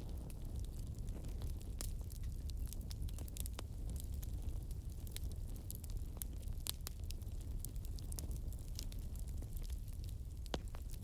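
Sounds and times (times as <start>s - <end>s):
low rumble of burning logs: 0.0s - 11.0s
wood fire crackling: 0.0s - 11.0s.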